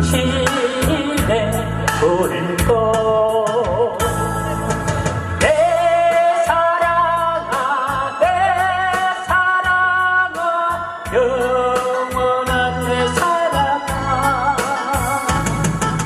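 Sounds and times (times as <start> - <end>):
band backing track: 0.0 - 16.0
person singing with vibrato: 0.0 - 16.0.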